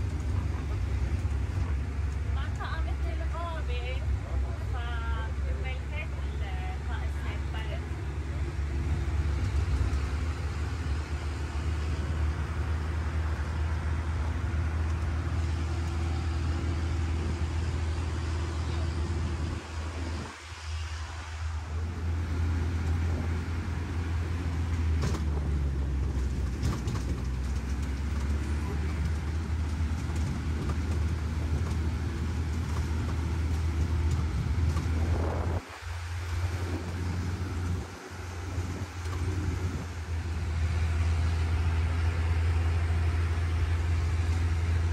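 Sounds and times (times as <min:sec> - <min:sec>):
road train engine humming: 0:00.0 - 0:44.9.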